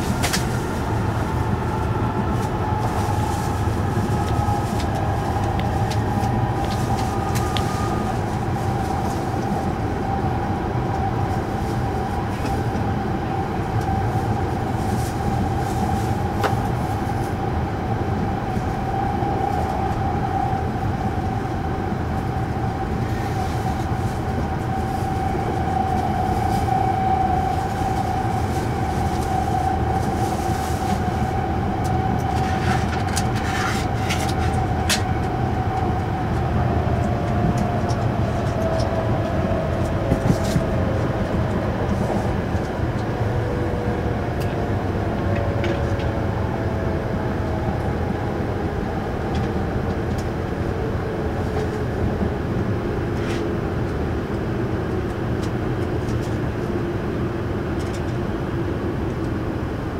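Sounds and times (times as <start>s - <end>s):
steady whine: 0.0s - 59.9s
train running rumble: 0.0s - 59.9s.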